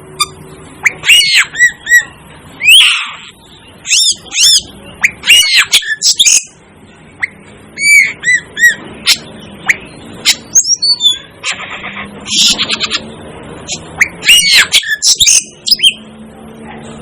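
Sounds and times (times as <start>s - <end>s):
starling squawking calls: 0.2s - 6.5s, 7.2s - 13.0s, 14.0s - 16.0s.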